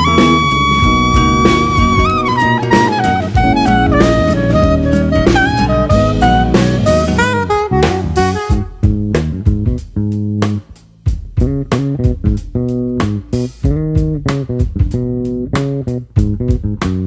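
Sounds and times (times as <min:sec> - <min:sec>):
plucked guitar chords: 0:00.0 - 0:10.6, 0:11.4 - 0:17.0
bass guitar line: 0:00.0 - 0:17.0.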